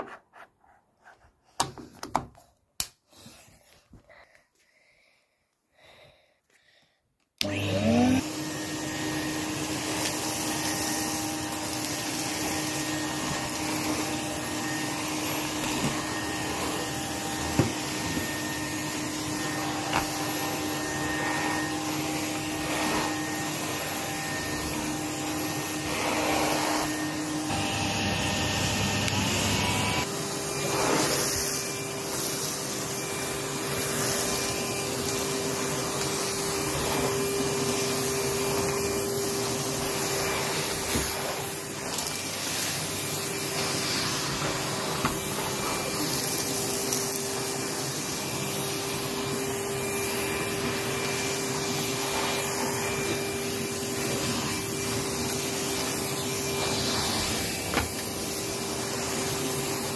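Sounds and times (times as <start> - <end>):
vacuum cleaner running: 7.4 - 59.9.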